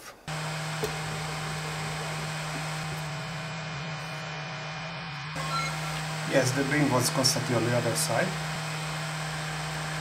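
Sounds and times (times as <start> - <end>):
laser module humming: 0.3 - 10.0.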